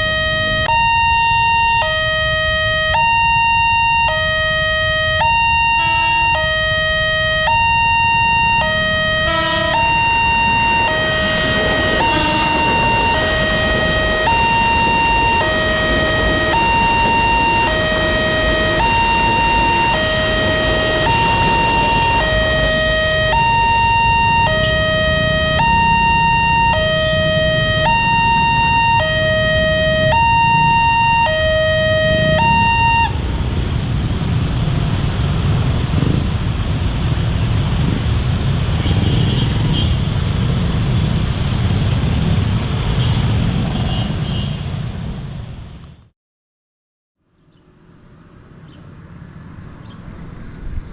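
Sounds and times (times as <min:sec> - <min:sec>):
two-tone crossing warning siren: 0:00.0 - 0:44.6.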